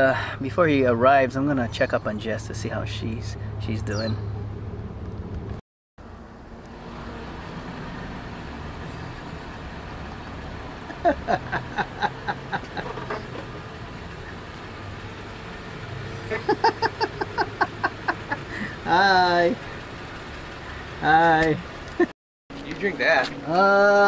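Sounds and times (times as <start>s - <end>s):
vehicle engine running low: 0.0s - 24.0s.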